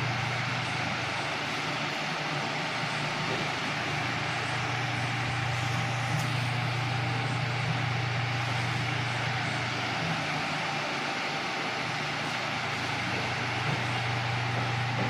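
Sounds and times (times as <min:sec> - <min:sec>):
desk fan motor hum: 0:00.0 - 0:15.0.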